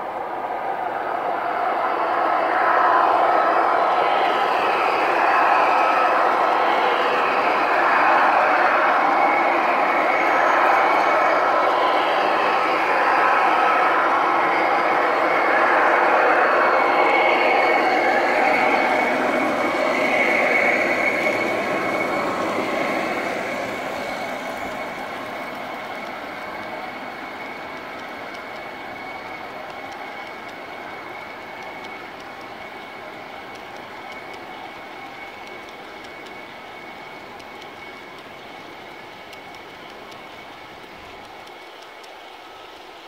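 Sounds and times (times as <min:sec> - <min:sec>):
model train rolling on track: 0:00.0 - 0:43.0
steady high whine: 0:00.0 - 0:43.0.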